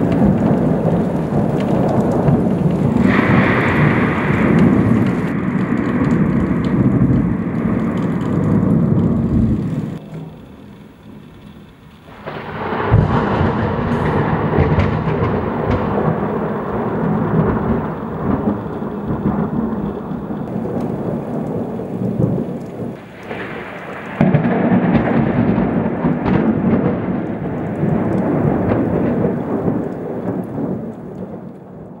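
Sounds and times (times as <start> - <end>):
thunder clap and rumble: 0.0 - 32.0.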